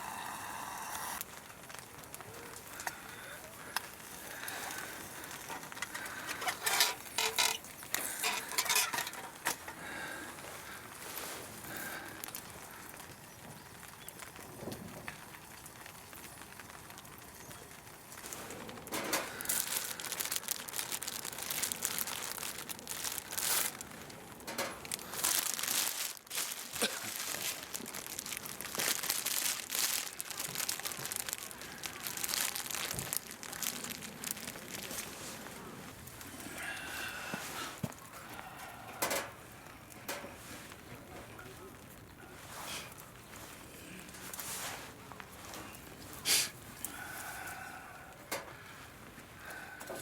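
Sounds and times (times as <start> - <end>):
material crinkling and rustling: 1.1 - 47.4.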